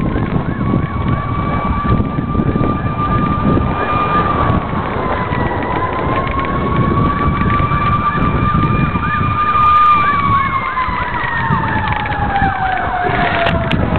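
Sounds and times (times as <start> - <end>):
low rumble: 0.0 - 13.9
wailing siren: 0.0 - 13.9
yelping siren: 0.0 - 13.9.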